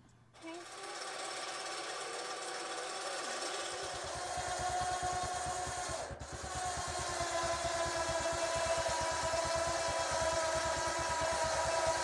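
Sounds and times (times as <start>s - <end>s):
electric winch whine: 0.4s - 12.0s.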